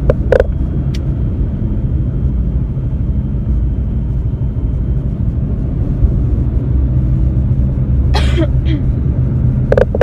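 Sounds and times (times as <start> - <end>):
car rumbling from inside cabin: 0.0 - 10.0.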